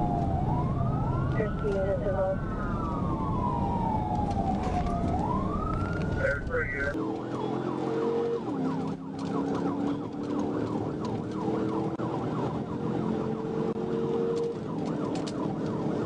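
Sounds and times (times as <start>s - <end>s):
emergency siren yelping: 0.0s - 16.0s
steady low siren tone: 0.0s - 16.0s.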